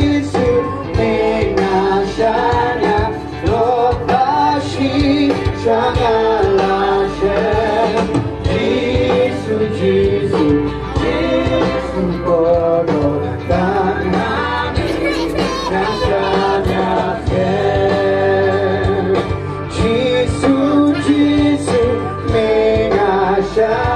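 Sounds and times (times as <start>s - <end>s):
instrumental accompaniment: 0.0s - 23.9s
person singing: 0.0s - 23.9s.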